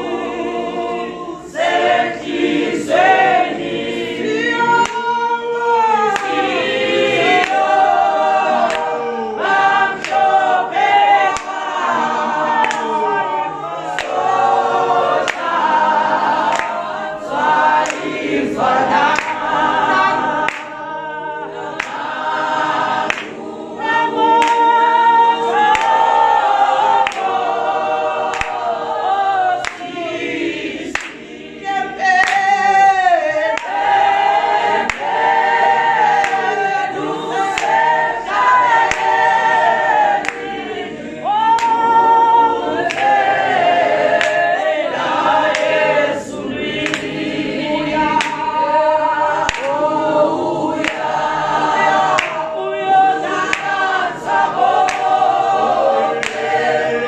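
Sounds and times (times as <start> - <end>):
choir singing gospel song: 0.0 - 57.0.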